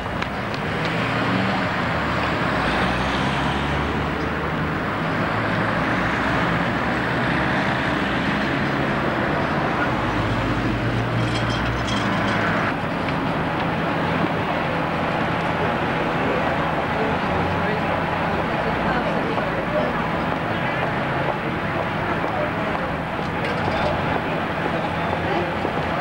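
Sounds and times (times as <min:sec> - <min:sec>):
bus diesel engine running: 0:00.0 - 0:26.0
street traffic: 0:00.0 - 0:26.0.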